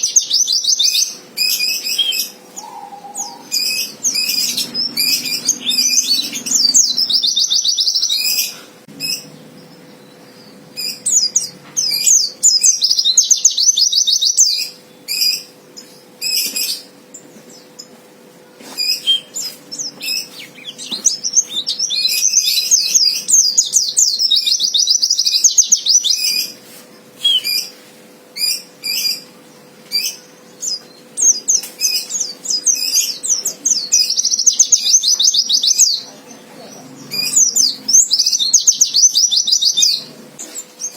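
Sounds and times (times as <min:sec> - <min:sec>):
bird twittering song: 0:00.0 - 0:18.0, 0:18.6 - 0:26.6, 0:27.2 - 0:27.8, 0:28.4 - 0:40.9.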